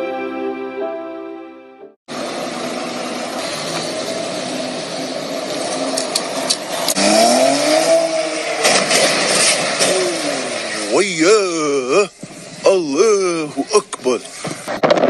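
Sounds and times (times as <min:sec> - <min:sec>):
car engine: 0:02.1 - 0:15.0
road and wind noise: 0:02.1 - 0:15.0.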